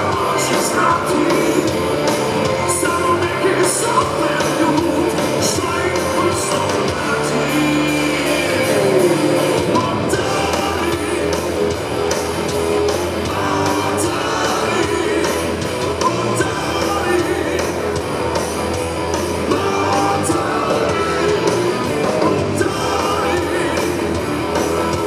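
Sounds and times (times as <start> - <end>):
bass guitar: 0.0 - 25.0
drums: 0.0 - 25.0
electric guitar: 0.0 - 25.0
keyboards: 0.0 - 25.0.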